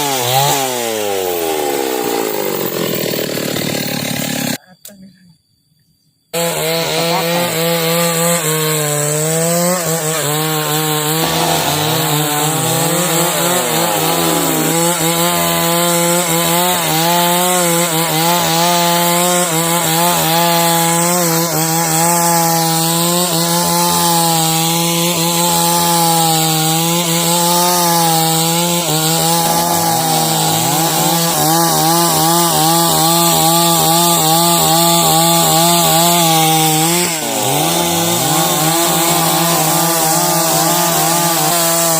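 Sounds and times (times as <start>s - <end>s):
chainsaw cutting timber: 0.0s - 4.6s, 6.4s - 41.9s.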